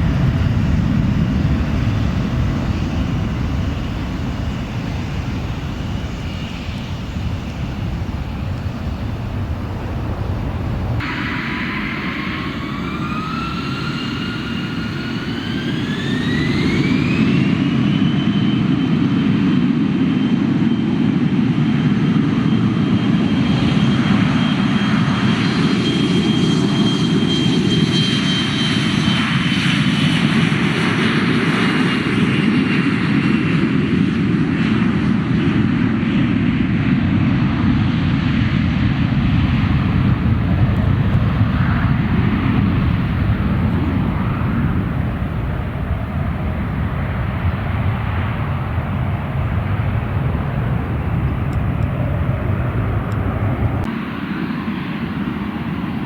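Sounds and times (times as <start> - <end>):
jet engine roar: 0.0 - 56.0
jet engine whine: 0.0 - 56.0.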